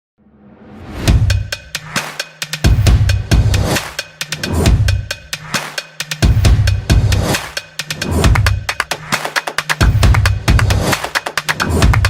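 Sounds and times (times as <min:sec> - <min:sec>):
music with fast drum beat: 0:01.1 - 0:12.0.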